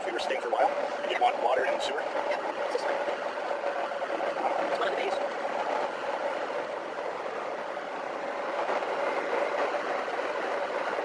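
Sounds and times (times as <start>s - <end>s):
motorhome engine and road noise: 0.0s - 11.0s.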